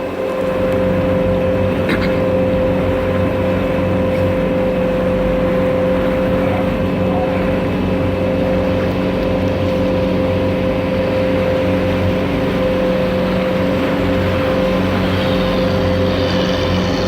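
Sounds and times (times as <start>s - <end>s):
boat engine droning: 0.0s - 17.0s
rushing water: 0.0s - 17.0s.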